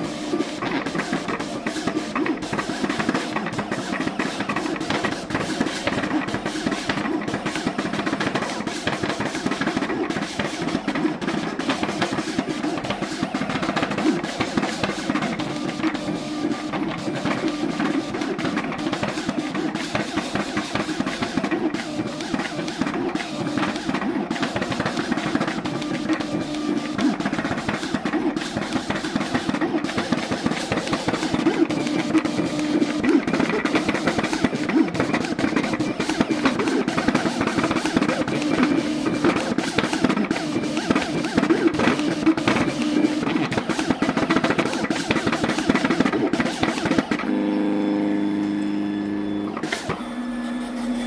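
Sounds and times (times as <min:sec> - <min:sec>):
vinyl cutter motors whining: 0:00.0 - 0:51.0.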